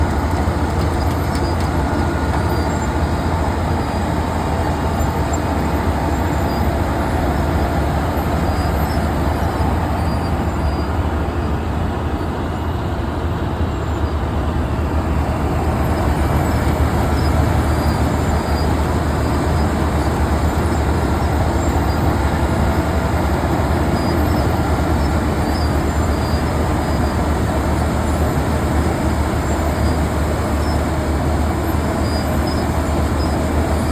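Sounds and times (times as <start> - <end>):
diesel engine droning: 0.0 - 33.9
road milling machine grinding: 0.0 - 33.9.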